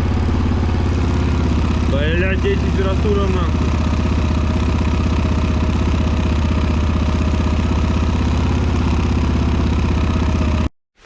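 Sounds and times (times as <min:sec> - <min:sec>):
atv engine idling: 0:00.0 - 0:10.7.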